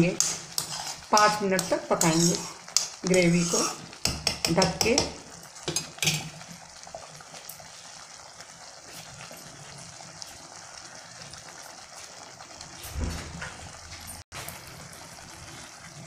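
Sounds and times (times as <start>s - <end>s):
gravy bubbling and sizzling: 0.0s - 16.0s.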